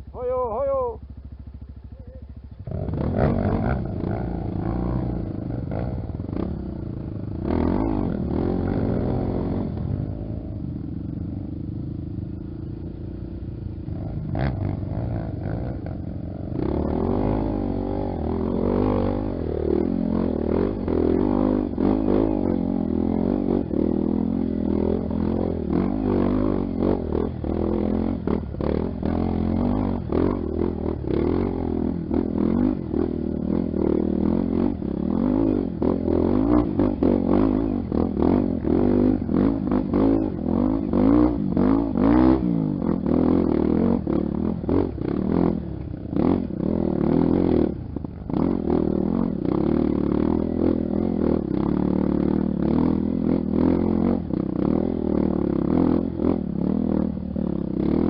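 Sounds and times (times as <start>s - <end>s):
dirt bike engine revving: 0.4s - 10.7s, 12.6s - 58.0s.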